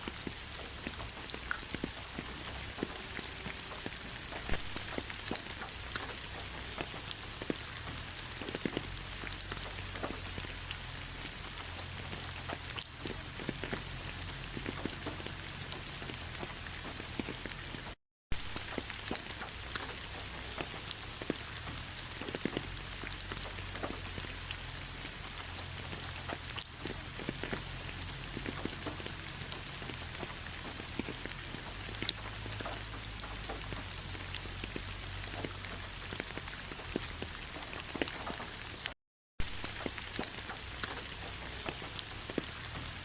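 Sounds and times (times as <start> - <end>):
rain pattering on leaves: 0.0 - 43.0.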